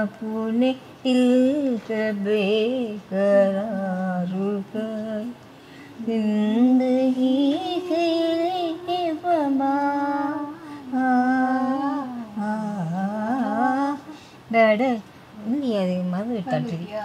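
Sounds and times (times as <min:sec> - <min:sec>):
woman singing wordless tune: 0:00.0 - 0:17.0.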